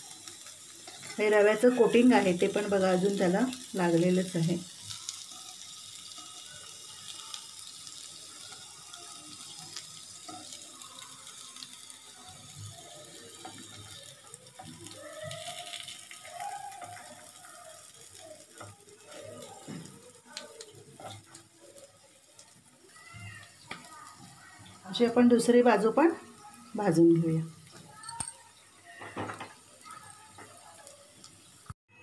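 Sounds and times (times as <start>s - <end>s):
potato slices sizzling in oil: 0.0s - 32.0s.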